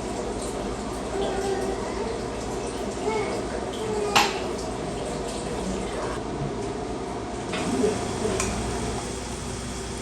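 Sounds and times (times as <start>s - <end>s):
kitchen hum: 0.0s - 10.0s.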